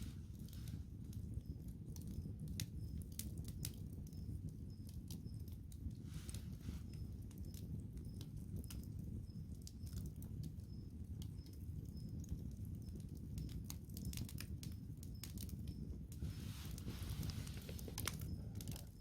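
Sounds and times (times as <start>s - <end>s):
campfire crackling: 0.0s - 19.0s
low fire rumble: 0.0s - 19.0s.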